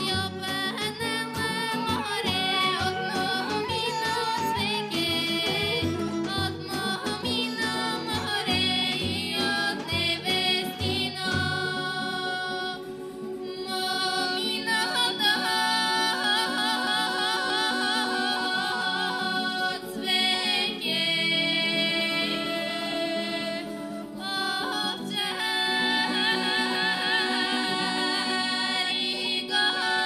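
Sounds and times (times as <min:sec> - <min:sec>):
two women singing: 0:00.0 - 0:30.0.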